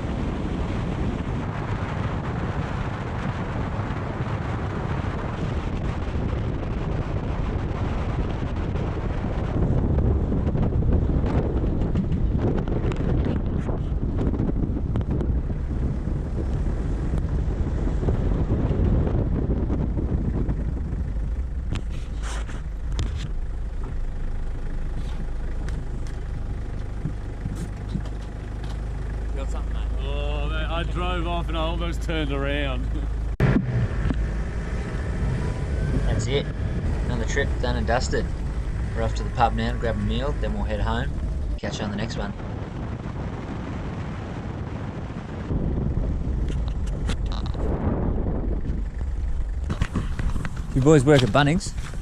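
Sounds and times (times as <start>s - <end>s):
car engine and road noise: 0.0s - 52.0s
wind buffeting microphone: 0.0s - 52.0s.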